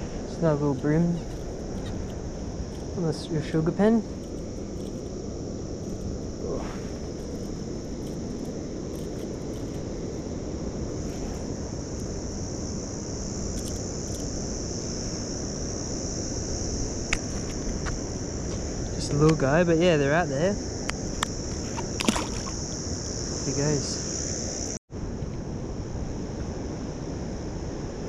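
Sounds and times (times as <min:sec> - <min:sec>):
high-pitched insect buzz: 0:00.0 - 0:28.0.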